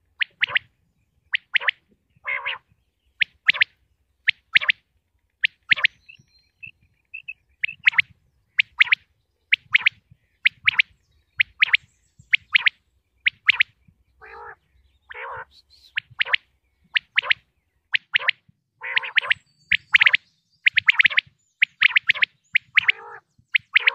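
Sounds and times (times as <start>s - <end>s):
quail calling: 0.0s - 0.7s, 1.3s - 4.8s, 5.4s - 17.4s, 18.0s - 23.9s.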